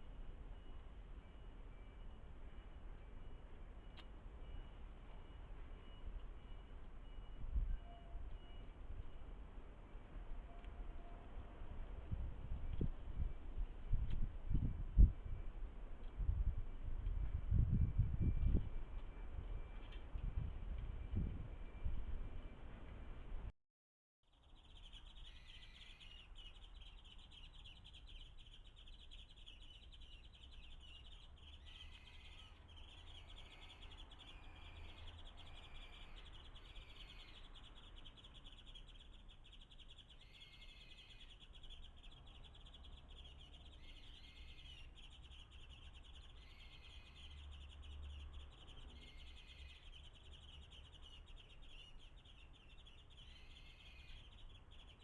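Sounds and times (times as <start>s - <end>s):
faint bird chirps: 0.0s - 22.7s, 24.3s - 55.0s.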